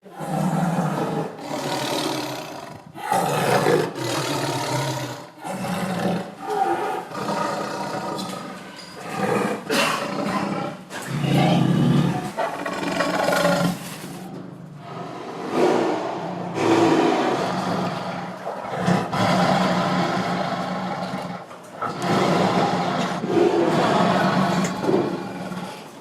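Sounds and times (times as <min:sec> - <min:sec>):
tiger roaring: 0:00.0 - 0:26.0.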